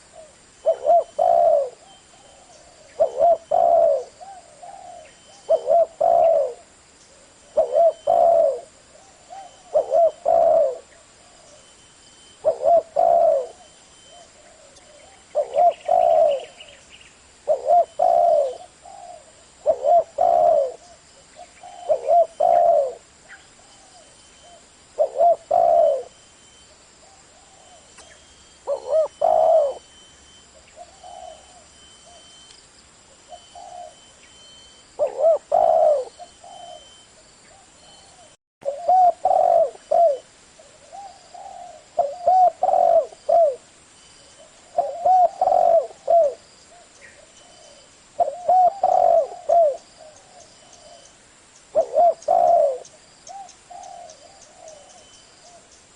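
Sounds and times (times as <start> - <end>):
dove cooing: 0.0 - 11.7, 12.4 - 16.8, 17.4 - 26.2, 27.0 - 32.4, 33.1 - 51.1, 51.7 - 55.8.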